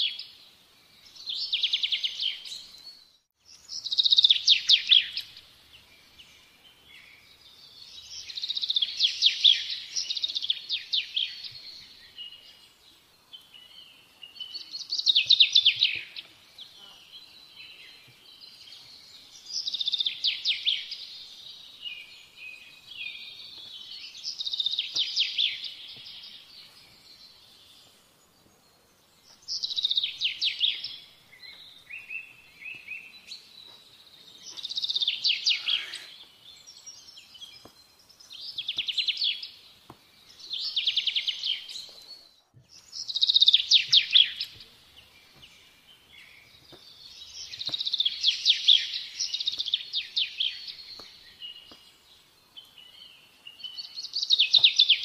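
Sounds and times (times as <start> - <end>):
quiet bird twittering: 0.0 - 55.0.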